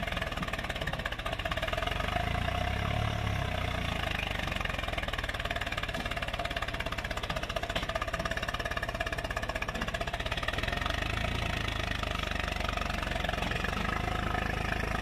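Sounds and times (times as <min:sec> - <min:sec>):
tractor diesel engine labouring: 0:00.0 - 0:15.0.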